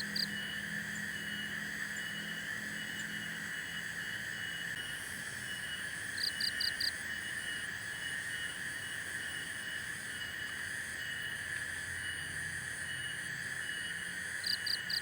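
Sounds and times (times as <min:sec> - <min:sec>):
insects trilling drone: 0:00.0 - 0:15.0.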